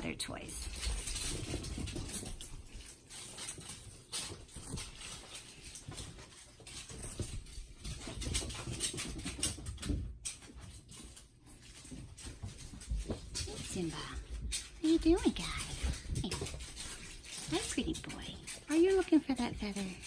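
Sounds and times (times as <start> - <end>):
kitten paws pattering and scuffling: 0.0 - 20.0.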